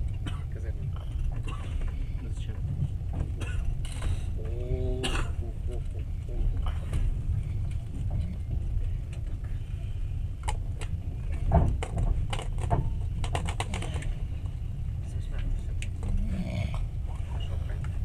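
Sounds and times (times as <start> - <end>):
train clicks and rattles: 0.0 - 18.0
train rumble: 0.0 - 18.0.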